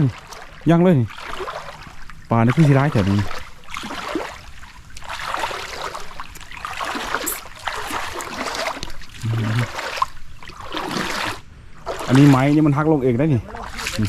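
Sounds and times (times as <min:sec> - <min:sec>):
stream running water: 0:00.0 - 0:14.0
water splashing: 0:00.0 - 0:14.0.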